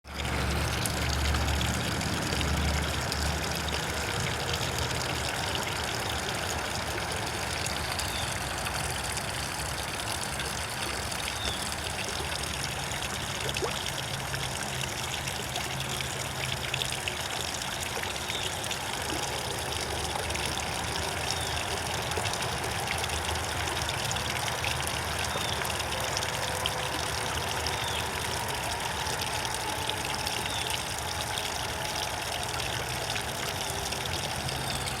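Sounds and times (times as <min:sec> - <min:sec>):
water running and trickling: 0:00.0 - 0:35.0.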